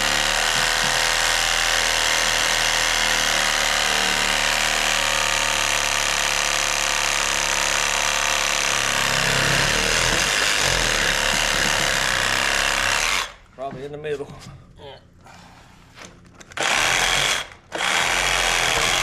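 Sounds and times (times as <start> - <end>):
power saw cutting wood: 0.0 - 13.4, 16.6 - 19.0.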